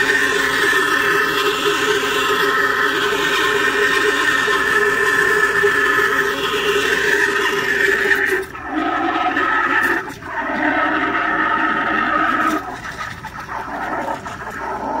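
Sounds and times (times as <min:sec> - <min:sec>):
steam wand frothing milk: 0:00.0 - 0:15.0.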